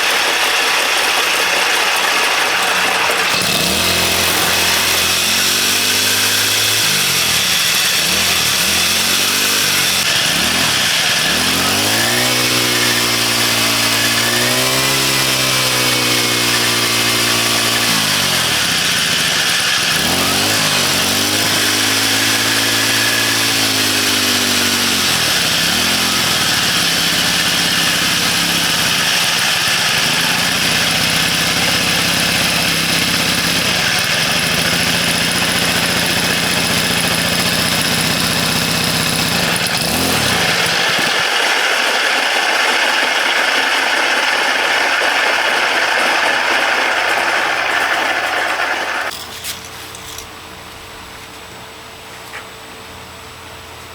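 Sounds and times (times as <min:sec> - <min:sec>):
engine revving and idling: 0:00.0 - 0:49.1.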